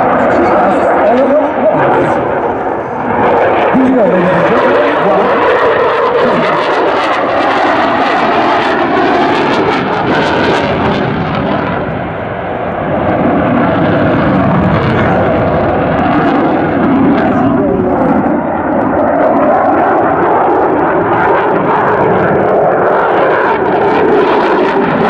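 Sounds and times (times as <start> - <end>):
loud fighter jet noise: 0.0 - 25.0.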